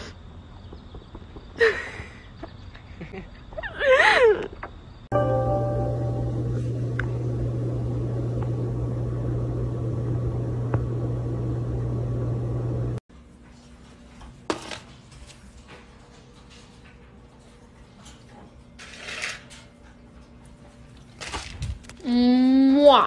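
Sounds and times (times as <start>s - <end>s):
low mechanical hum: 4.4s - 23.0s.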